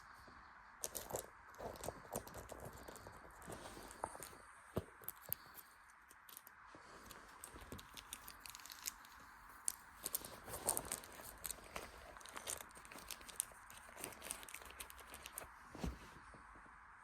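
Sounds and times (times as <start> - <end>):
crinkling and rustling: 0.8 - 16.8.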